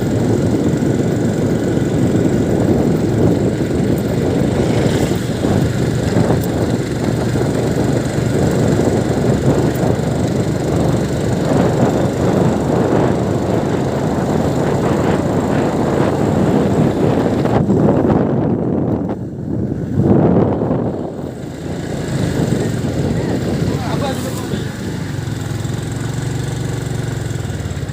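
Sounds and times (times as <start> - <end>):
road vehicle rumble: 0.0 - 27.9.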